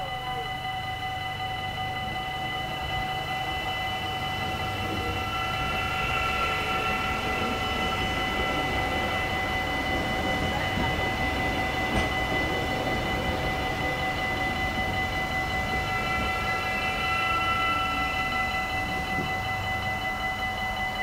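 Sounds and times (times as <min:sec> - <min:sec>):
level crossing bells ringing: 0:00.0 - 0:21.0
train wheels rumbling on rails: 0:01.2 - 0:21.0.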